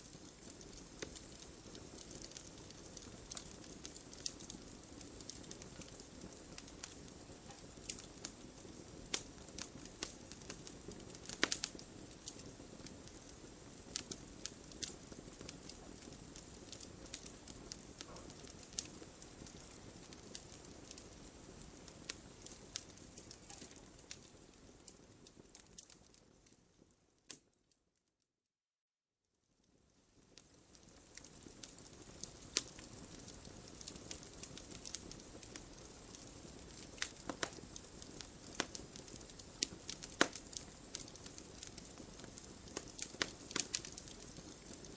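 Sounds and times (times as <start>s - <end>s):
wood fire crackling: 0.0s - 27.7s, 29.6s - 44.9s.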